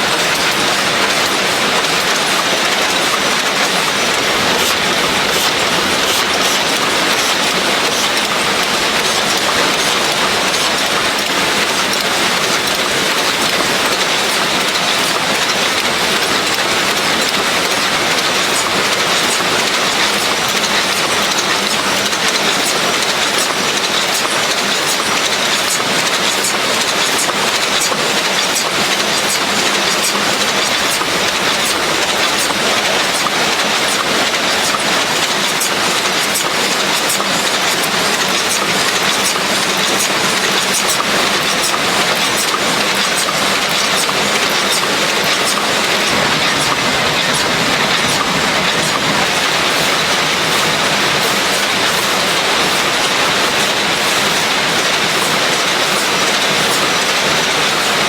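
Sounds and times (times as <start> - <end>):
factory machinery din: 0.0 - 58.0.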